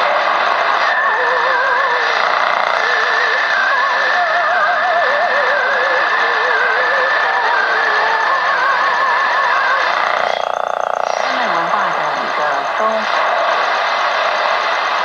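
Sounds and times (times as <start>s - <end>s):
old song from radio speaker: 0.0s - 15.0s
radio static hiss: 0.0s - 15.0s.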